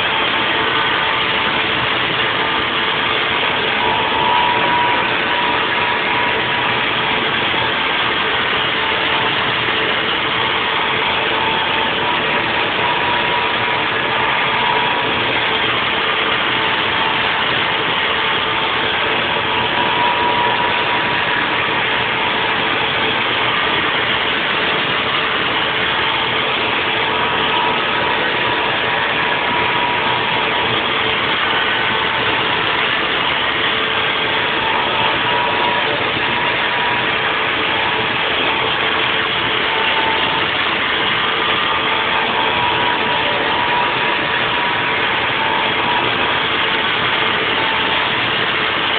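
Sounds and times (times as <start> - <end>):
milling machine cutting with whine: 0.0 - 48.9.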